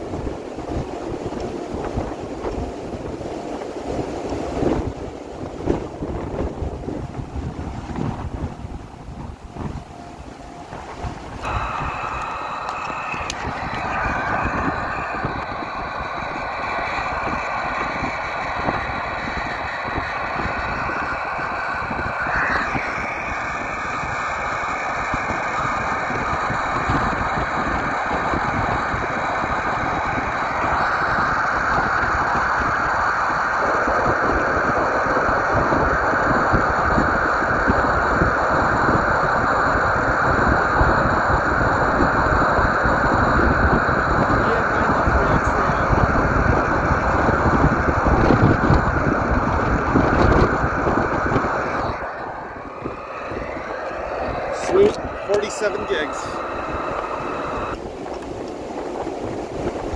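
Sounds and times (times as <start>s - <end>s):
steady hiss: 0.0s - 59.9s
wind buffeting microphone: 0.0s - 59.9s.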